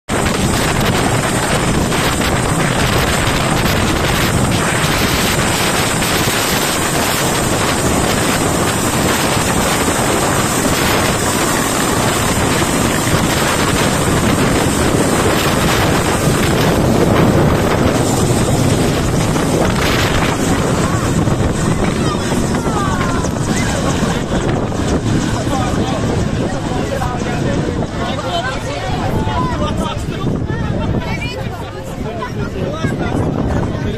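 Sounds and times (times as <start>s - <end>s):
helicopter rotor and turbine: 0.0s - 33.9s
high whine: 0.1s - 30.5s
wind buffeting microphone: 0.1s - 33.9s.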